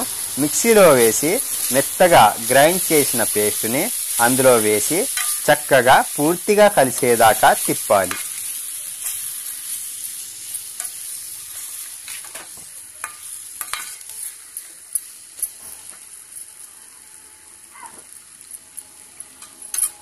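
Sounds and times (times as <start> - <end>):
curry sizzling in pot: 0.0 - 20.0.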